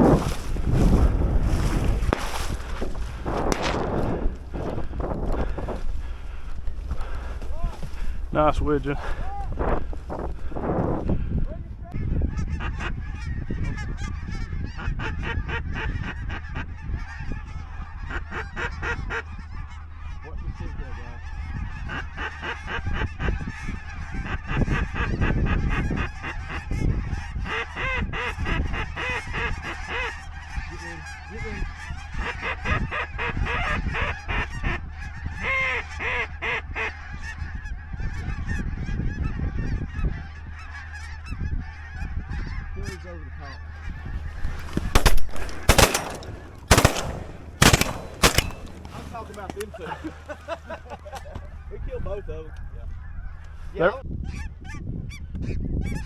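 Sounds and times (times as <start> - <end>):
geese honking: 0.0 - 11.3, 11.9 - 54.8.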